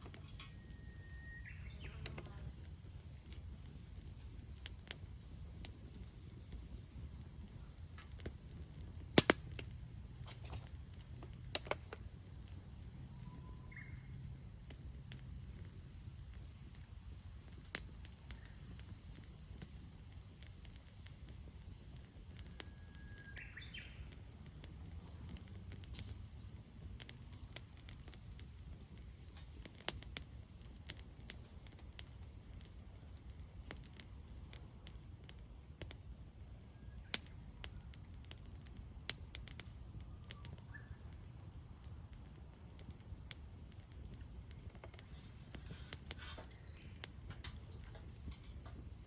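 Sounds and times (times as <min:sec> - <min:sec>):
wood fire crackling and popping: 0:00.0 - 0:49.0.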